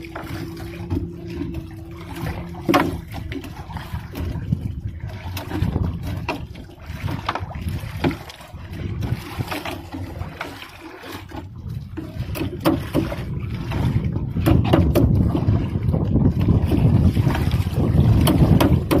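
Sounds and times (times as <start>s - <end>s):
net knocking against boat: 0.0s - 4.6s, 5.2s - 8.4s, 11.3s - 19.0s
wind and sea rumble: 0.0s - 19.0s.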